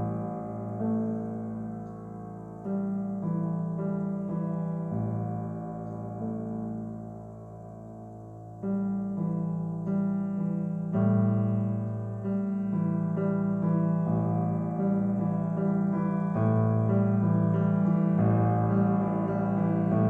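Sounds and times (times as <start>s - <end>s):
solo piano chords: 0.0s - 20.0s.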